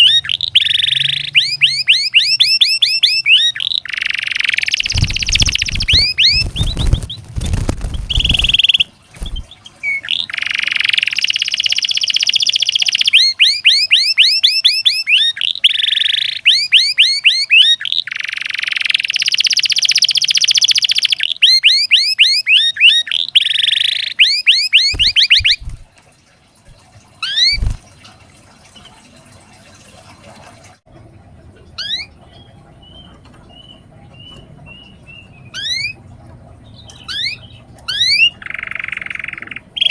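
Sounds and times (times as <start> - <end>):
canary singing trills: 0.0 - 25.9, 27.2 - 27.8, 31.8 - 39.9.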